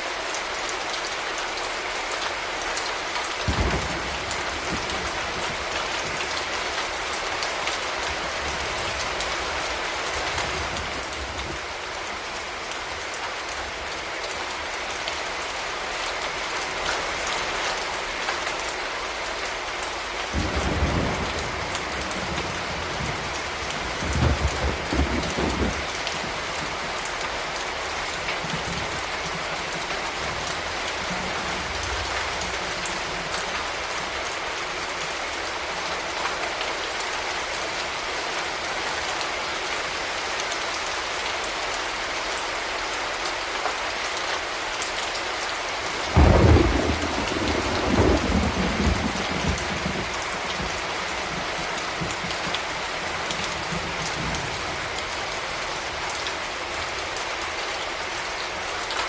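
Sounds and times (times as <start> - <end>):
rain falling on hard surfaces: 0.0 - 59.0.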